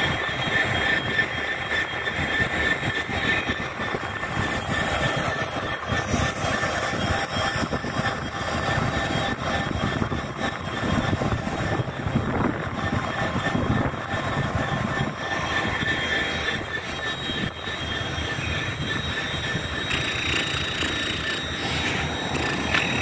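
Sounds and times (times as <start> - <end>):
diesel locomotive engine: 0.0 - 23.0
thin steady wheel squeal: 0.0 - 23.0
wagon wheels rumbling on rails: 0.0 - 23.0.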